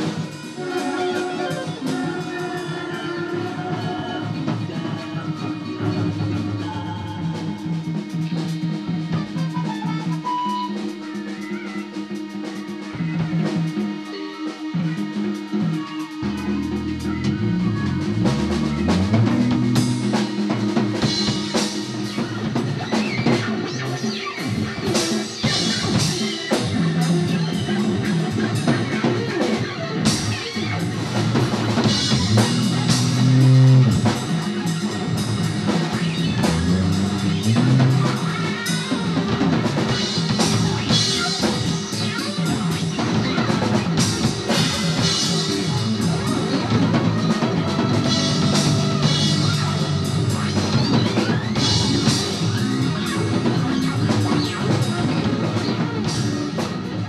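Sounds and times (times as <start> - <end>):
band music playing: 0.0 - 57.0
drum kit beat: 0.0 - 57.0.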